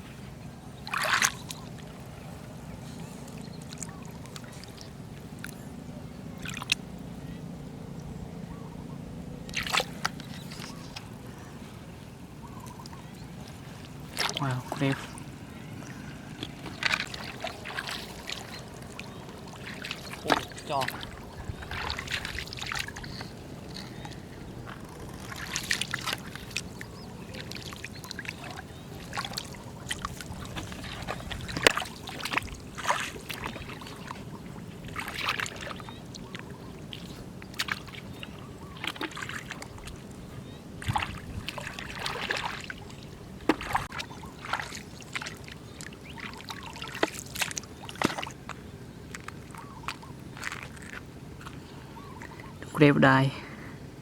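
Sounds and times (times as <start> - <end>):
splashing through water: 0.0 - 8.5, 9.1 - 53.3
floodwater running: 0.0 - 54.0.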